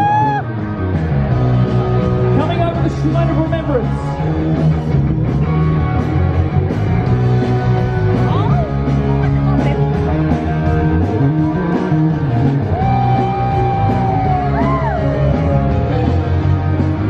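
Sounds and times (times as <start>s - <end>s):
loud rock music with guitar: 0.0s - 17.0s
steady bass line: 0.0s - 17.0s.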